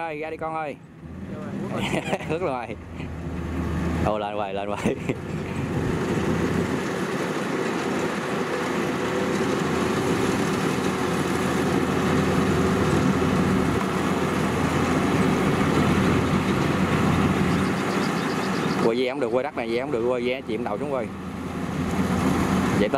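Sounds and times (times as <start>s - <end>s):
diesel engine running under load: 0.0s - 22.9s.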